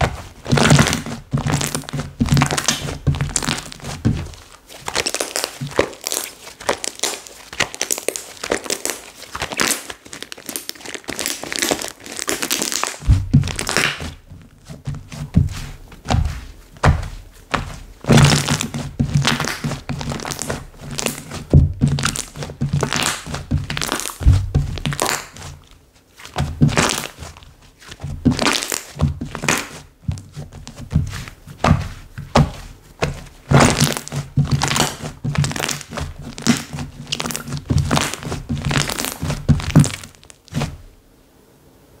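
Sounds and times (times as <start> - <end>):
slime squishing by hand: 0.0 - 41.0.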